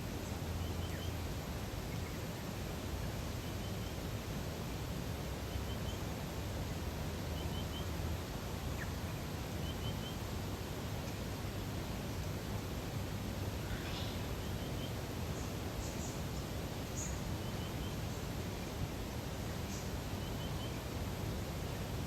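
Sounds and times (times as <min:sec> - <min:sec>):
soft outdoor ambience: 0:00.0 - 0:22.0.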